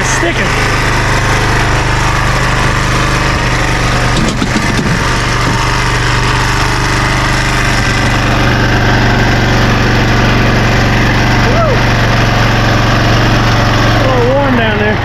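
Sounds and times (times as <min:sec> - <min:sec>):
single-cylinder engine fast idle: 0:00.0 - 0:15.0.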